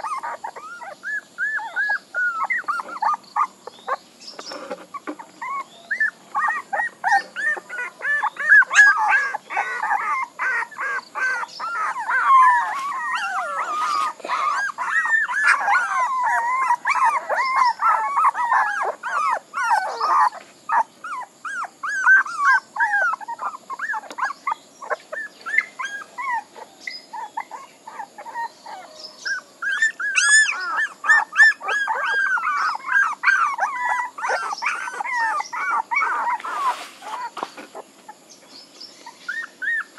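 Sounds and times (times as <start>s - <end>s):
puppies whining and crying: 0.0s - 39.9s.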